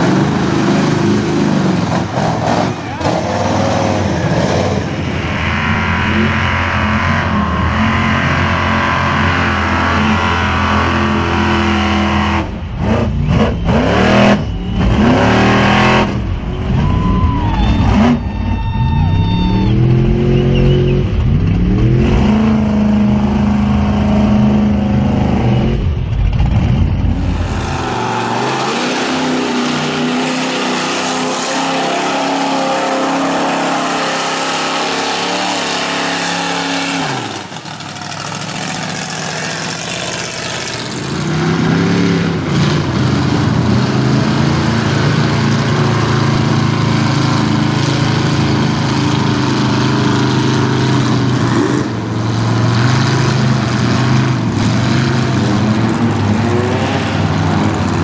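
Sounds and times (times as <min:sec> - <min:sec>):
truck engines revving hard: 0:00.0 - 0:58.0.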